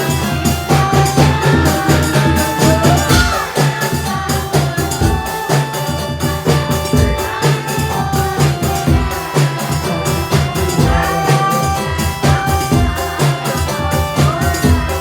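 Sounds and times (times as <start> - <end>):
drums and percussion: 0.0 - 15.0.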